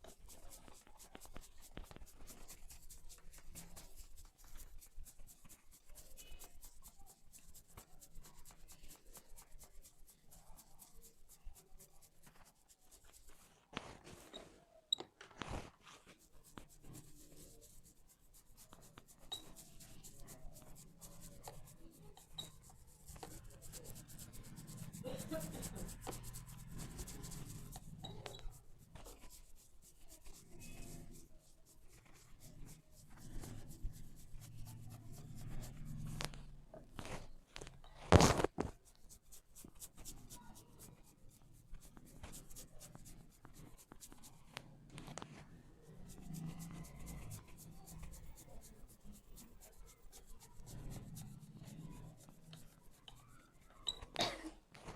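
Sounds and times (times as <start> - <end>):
hair rubbing against scalp: 0.0 - 14.6, 15.4 - 54.2.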